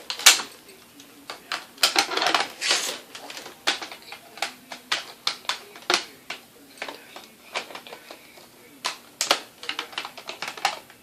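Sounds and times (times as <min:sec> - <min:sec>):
plastic toy parts clicking: 0:01.3 - 0:02.5, 0:03.1 - 0:11.0.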